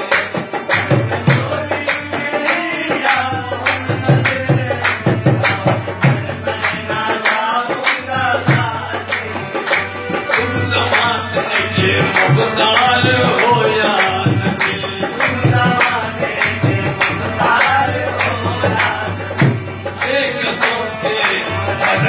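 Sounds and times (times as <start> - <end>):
men singing: 0.0 - 22.0
steady percussion beat: 0.0 - 22.0.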